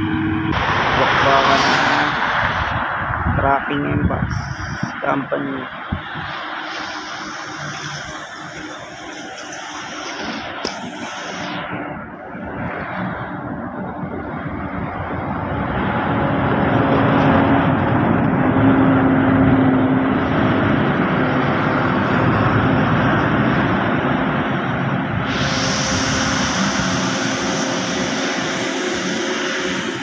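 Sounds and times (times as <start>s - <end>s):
coach diesel engine passing: 0.0s - 3.3s, 5.7s - 30.0s
truck engines: 0.0s - 30.0s.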